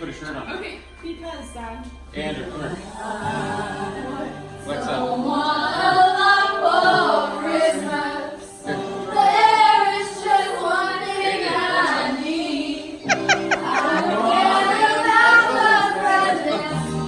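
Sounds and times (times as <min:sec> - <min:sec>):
choir singing music: 0:02.2 - 0:17.0.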